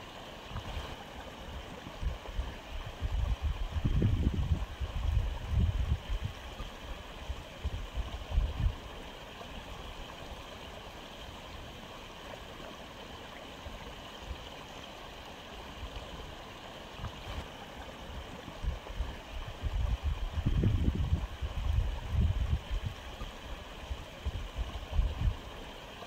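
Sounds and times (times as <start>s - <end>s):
aquarium filter trickling water: 0.0s - 26.0s.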